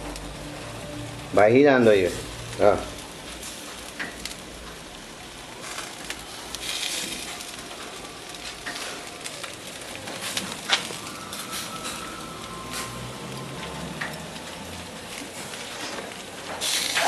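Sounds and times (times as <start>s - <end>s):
charcoal fire crackling: 0.0s - 17.0s
fire popping: 0.0s - 17.0s.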